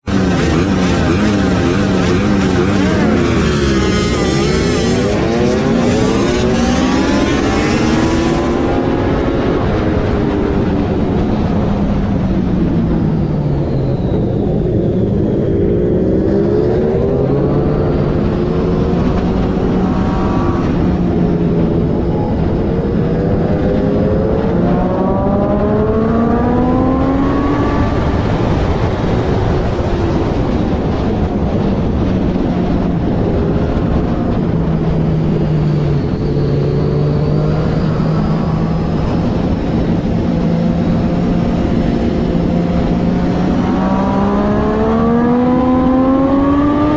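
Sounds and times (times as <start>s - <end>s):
motorcycle engine revving: 0.0s - 13.6s, 14.3s - 46.9s
rush of noise: 0.0s - 46.9s.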